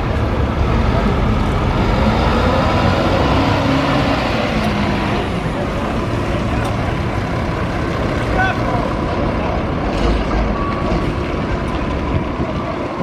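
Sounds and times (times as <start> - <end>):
bus diesel engine passing: 0.0 - 13.0.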